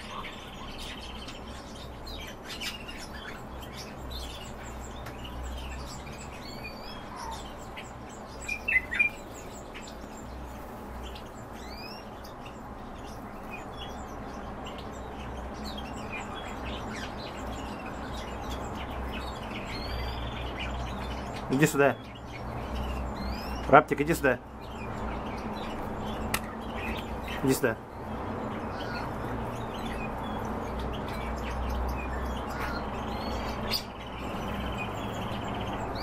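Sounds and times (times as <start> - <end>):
cage birds chirping and whistling: 0.0 - 36.0.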